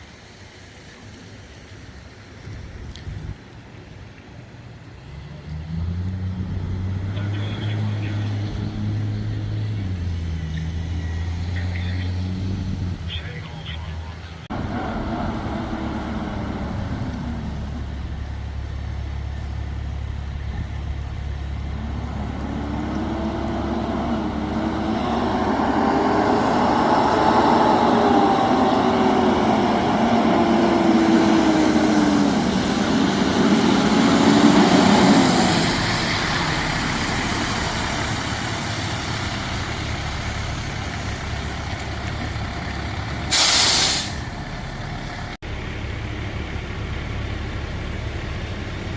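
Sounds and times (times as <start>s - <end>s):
fire truck engine rumbling: 0.0s - 48.9s.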